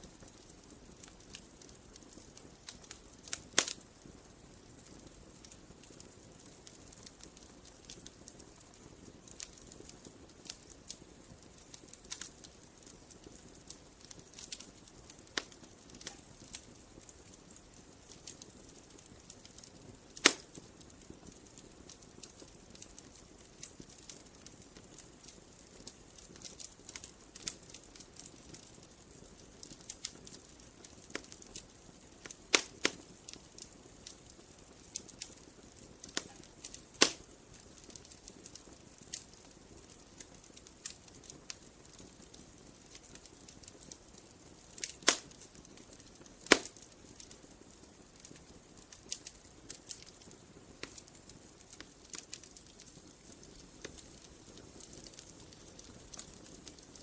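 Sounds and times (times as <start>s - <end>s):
burning wood popping: 0.0s - 57.0s
wood fire crackling: 0.0s - 57.0s.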